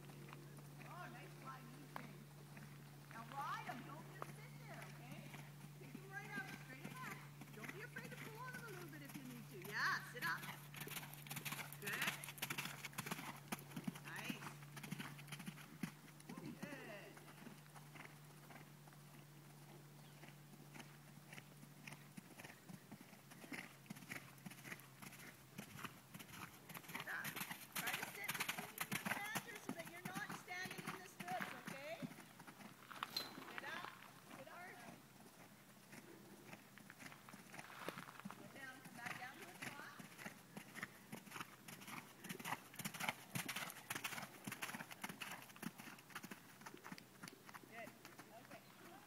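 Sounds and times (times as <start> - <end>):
horse hoofbeats on gravel: 0.0 - 49.0.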